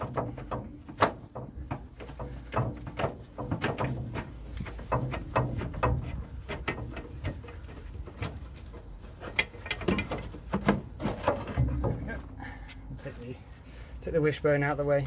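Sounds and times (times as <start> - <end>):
metallic clicks and knocks: 0.0 - 12.8.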